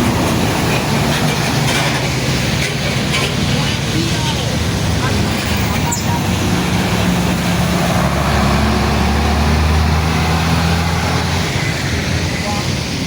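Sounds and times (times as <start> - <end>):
large vehicle engine drone: 0.0 - 13.0
road noise: 0.0 - 13.0.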